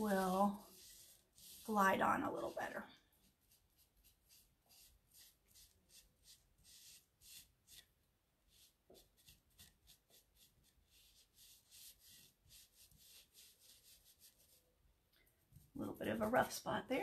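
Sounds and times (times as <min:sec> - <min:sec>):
sponge brush swishing paint: 0:00.0 - 0:14.8, 0:15.4 - 0:17.0.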